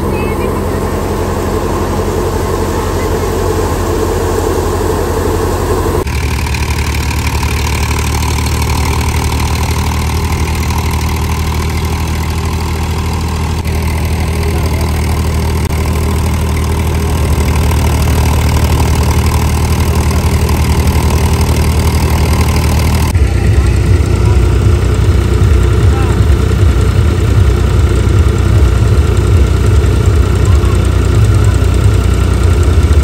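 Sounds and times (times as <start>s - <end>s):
thresher churning: 0.0s - 33.0s
tractor diesel engine running: 0.0s - 33.0s.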